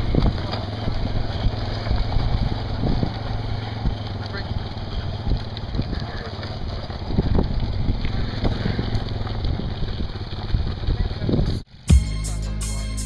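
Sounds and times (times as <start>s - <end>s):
cart frame and wheels knocking: 0.0s - 11.6s
wind buffeting microphone: 0.0s - 11.7s
quad bike engine running: 0.0s - 12.0s.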